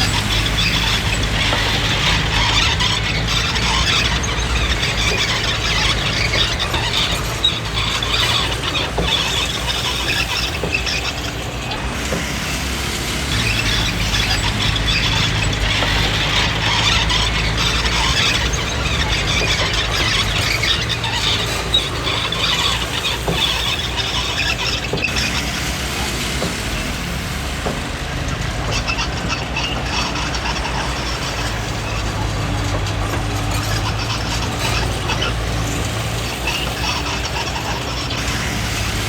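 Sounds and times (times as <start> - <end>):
diesel engine running: 0.0 - 39.0
steel tracks squealing and clanking: 0.0 - 39.0.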